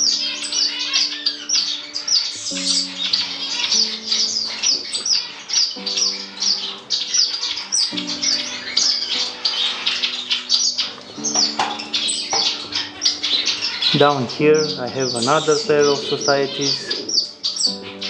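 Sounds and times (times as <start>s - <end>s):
finches chirping: 0.0s - 18.0s
soft background music: 0.0s - 18.0s.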